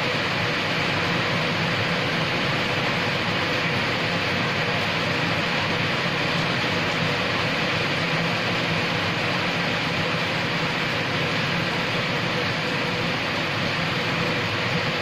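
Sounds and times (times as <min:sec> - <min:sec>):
rain on brick paving: 0:00.0 - 0:15.0.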